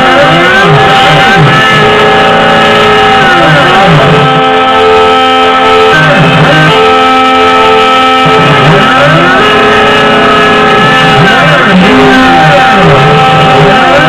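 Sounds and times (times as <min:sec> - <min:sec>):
router spindle high whine: 0:00.0 - 0:14.0
stepper motors whining: 0:00.0 - 0:14.0.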